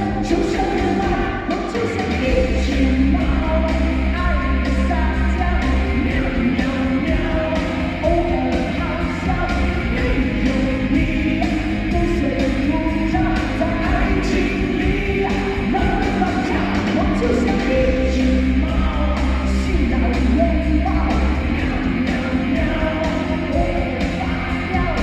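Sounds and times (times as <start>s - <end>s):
backing music with beat and bass: 0.0s - 25.0s
person singing: 0.0s - 25.0s.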